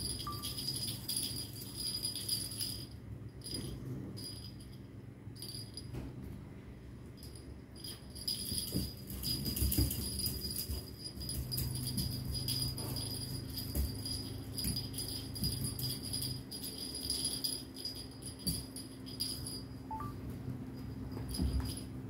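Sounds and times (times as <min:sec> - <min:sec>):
cat toy jingling and rattling: 0:00.0 - 0:05.9, 0:07.1 - 0:22.0.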